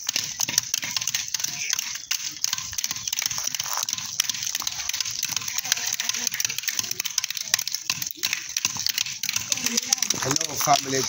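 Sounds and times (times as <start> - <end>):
sticks cracking nut shells: 0.0 - 11.0.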